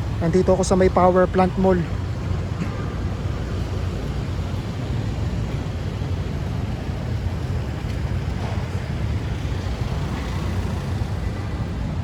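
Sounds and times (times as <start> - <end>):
low rumble of street noise: 0.0 - 12.0.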